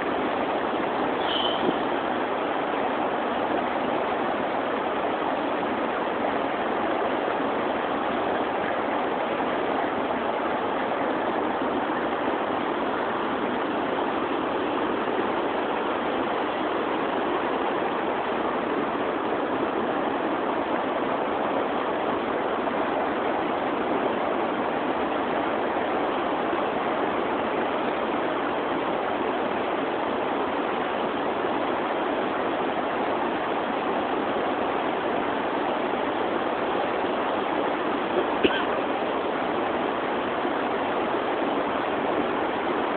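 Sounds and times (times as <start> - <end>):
river water flowing: 0.0 - 42.9.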